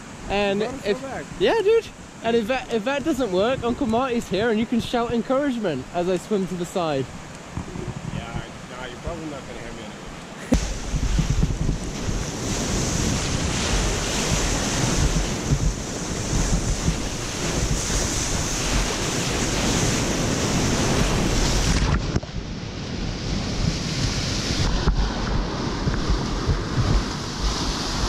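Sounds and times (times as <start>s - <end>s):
wind buffeting microphone: 0.0s - 6.1s, 6.8s - 28.0s
whitewater rushing and churning: 0.0s - 28.0s.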